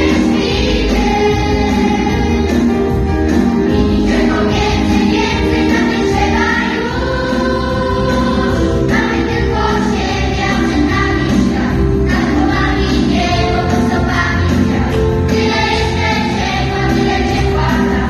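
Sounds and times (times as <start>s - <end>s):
mixed choir singing: 0.0s - 18.0s
musical accompaniment: 0.0s - 18.0s.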